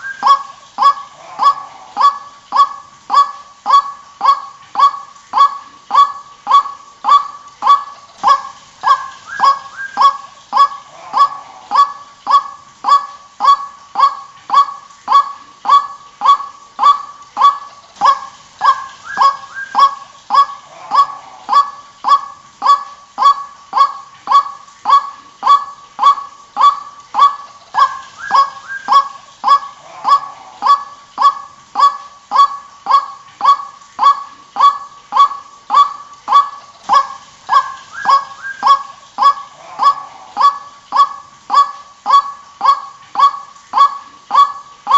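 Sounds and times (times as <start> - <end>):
waterhen calling: 0.0 - 44.9.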